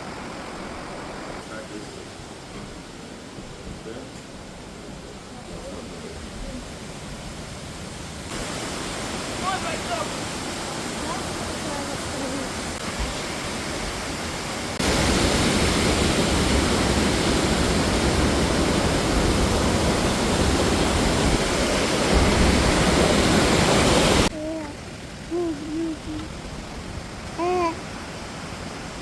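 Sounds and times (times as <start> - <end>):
waterfall rushing: 0.0 - 3.4, 4.0 - 29.0.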